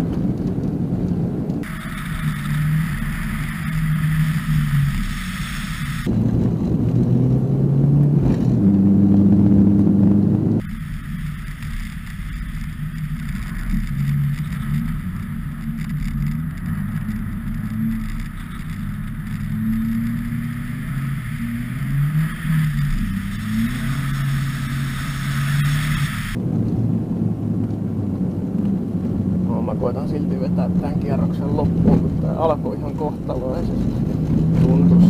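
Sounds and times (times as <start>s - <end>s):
car engine revving: 0.0s - 35.0s
wind noise: 0.0s - 35.0s.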